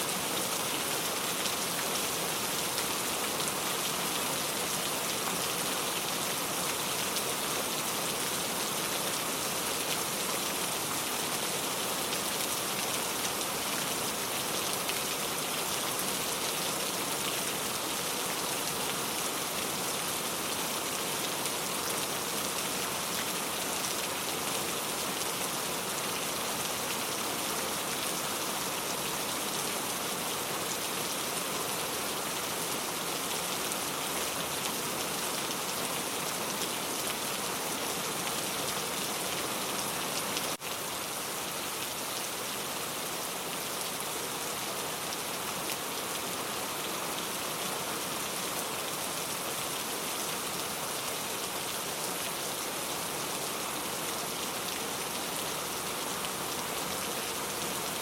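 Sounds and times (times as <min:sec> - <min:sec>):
rain hissing on surfaces: 0:00.0 - 0:58.0.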